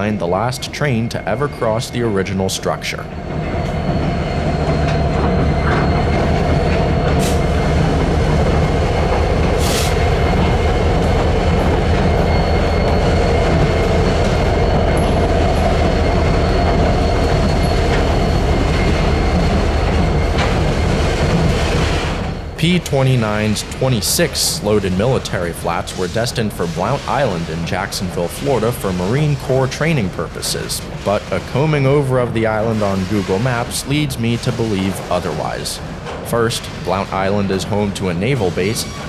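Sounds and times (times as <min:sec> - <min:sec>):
high wheel squeal: 0:00.0 - 0:22.5, 0:23.2 - 0:35.8, 0:36.4 - 0:39.0
freight train wheels on rails: 0:00.0 - 0:39.0.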